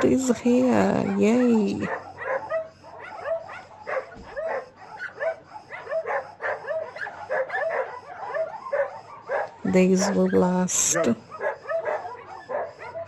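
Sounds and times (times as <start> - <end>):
many dogs barking: 0.0 - 13.0.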